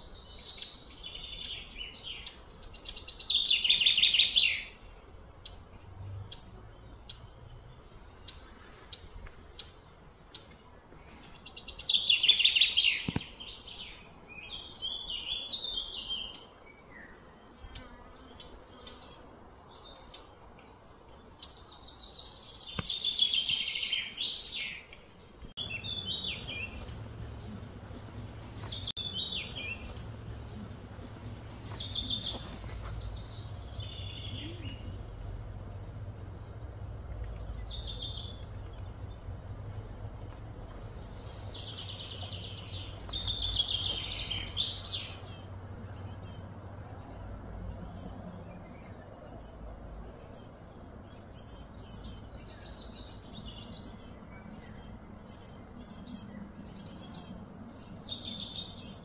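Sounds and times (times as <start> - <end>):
birds chirping and calling: 0.0 - 59.0
low outdoor hum: 0.0 - 59.0.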